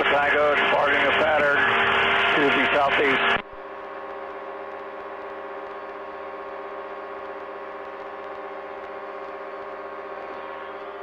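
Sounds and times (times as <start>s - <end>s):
small airplane engine droning: 0.0s - 11.0s.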